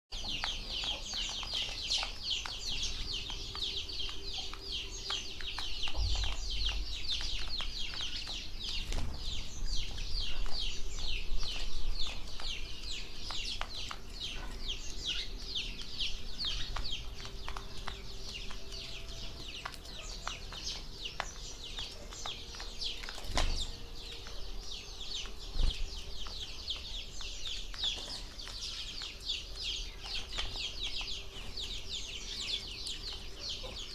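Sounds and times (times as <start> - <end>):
flock of birds chirping: 0.1 - 33.9.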